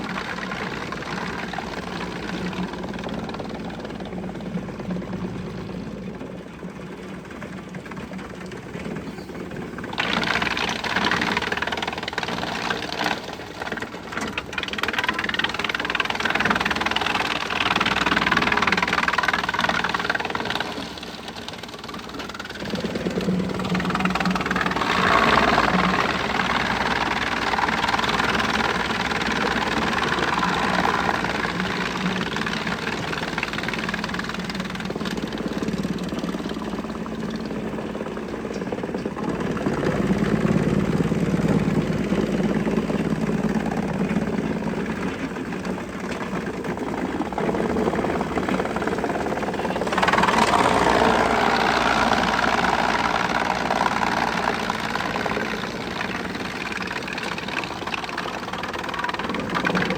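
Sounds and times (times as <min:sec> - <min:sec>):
wood chipper engine running: 0:00.0 - 0:59.9.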